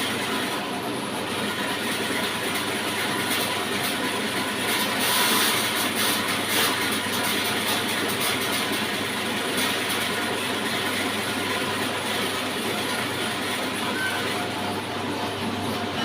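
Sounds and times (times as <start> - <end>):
saw machine running: 0.0 - 16.0.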